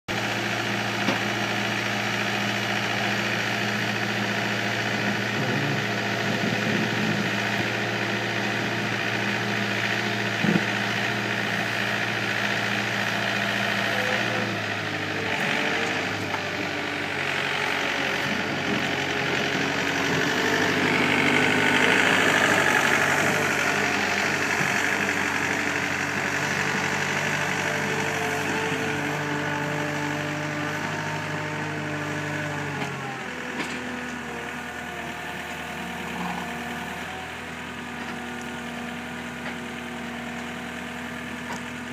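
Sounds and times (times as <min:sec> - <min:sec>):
diesel engine running: 0:00.1 - 0:41.9
engine whine: 0:00.1 - 0:41.9.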